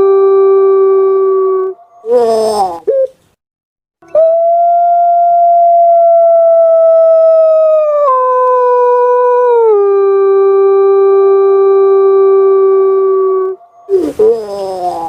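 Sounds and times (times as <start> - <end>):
dove cooing long howl-like coo: 0.0 - 3.2, 4.1 - 15.0.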